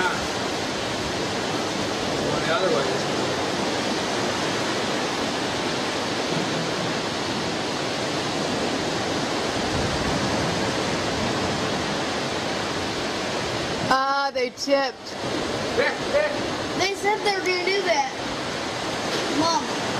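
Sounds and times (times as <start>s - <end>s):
surf rushing: 0.0s - 19.9s
wind: 0.0s - 19.9s.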